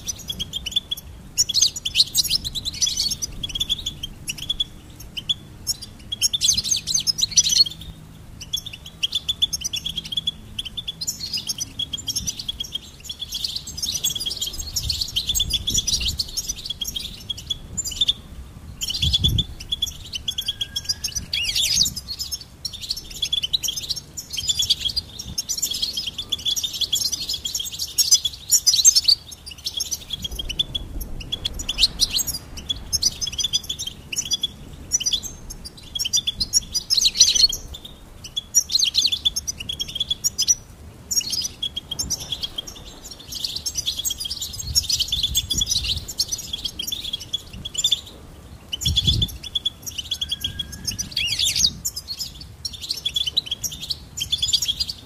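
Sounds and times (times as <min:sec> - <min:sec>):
goldfinch twittering song: 0:00.0 - 0:55.0.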